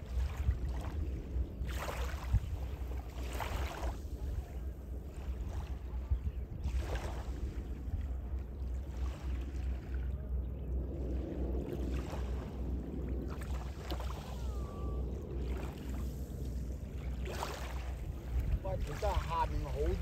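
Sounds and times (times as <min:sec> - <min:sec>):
small waves lapping: 0:00.0 - 0:20.0
wind buffeting microphone: 0:00.0 - 0:20.0.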